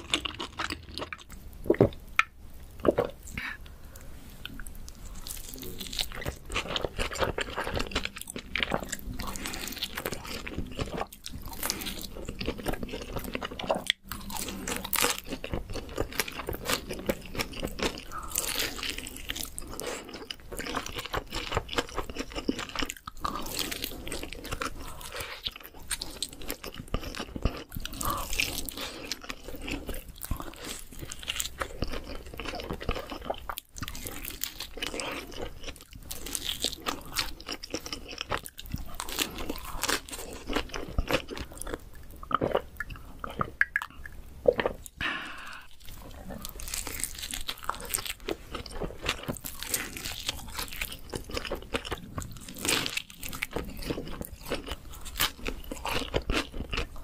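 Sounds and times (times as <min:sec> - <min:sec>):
chewing: 0:04.4 - 0:57.0
crunchy bites of pizza crust: 0:05.3 - 0:41.8, 0:45.8 - 0:57.0.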